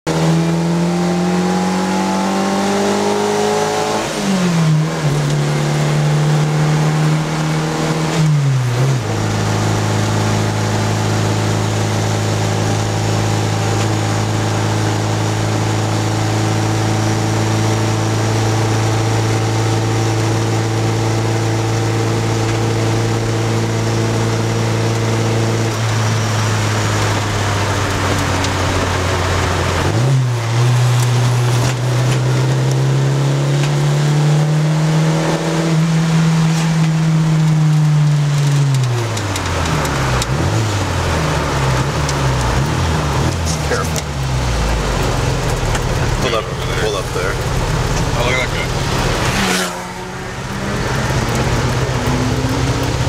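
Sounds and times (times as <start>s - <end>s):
car engine while driving: 0.1s - 53.0s.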